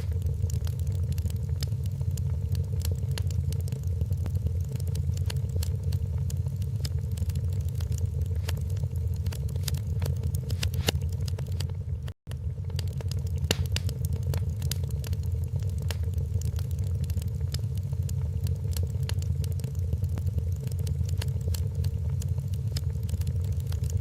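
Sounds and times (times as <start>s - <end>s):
low rumble of burning fire: 0.0s - 24.0s
wood fire crackling and popping: 0.0s - 24.0s.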